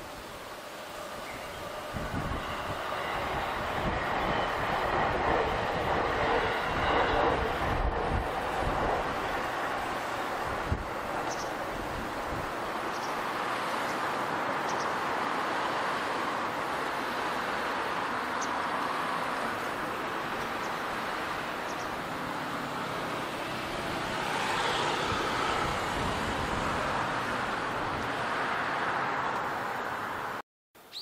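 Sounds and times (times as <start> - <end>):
distant road traffic hum: 0.0 - 31.0.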